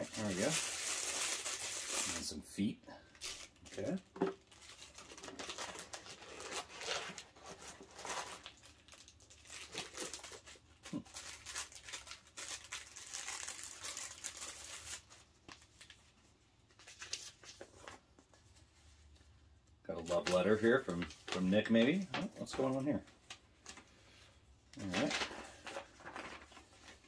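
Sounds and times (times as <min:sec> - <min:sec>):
packing paper and plastic rustling: 0:00.0 - 0:02.4, 0:03.0 - 0:24.2, 0:24.8 - 0:27.0.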